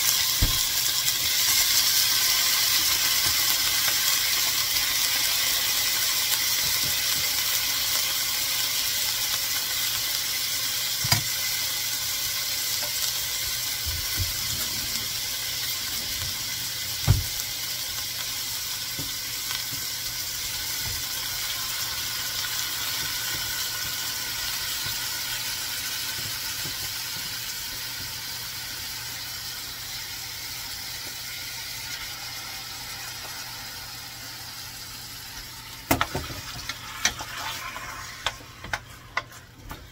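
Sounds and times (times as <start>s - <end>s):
chicken sizzling in oil: 0.0s - 39.9s.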